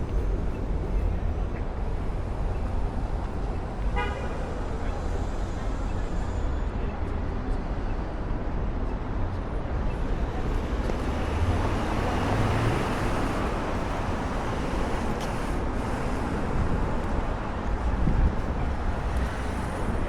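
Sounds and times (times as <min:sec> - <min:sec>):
passing cars and engine rumble: 0:00.0 - 0:20.0.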